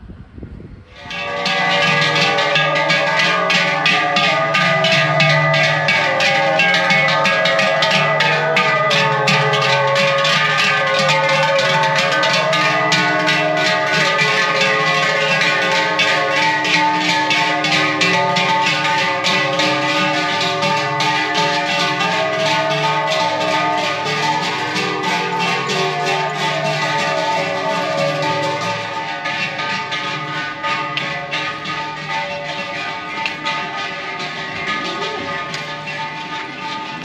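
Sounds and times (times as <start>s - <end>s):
cowbells clanging: 0.9s - 37.0s.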